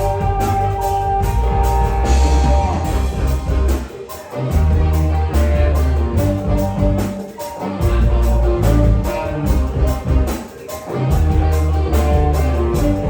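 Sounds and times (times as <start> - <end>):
electric bass: 0.0 - 13.0
held guitar lead note: 0.0 - 13.0
live rock band playing: 0.0 - 13.0.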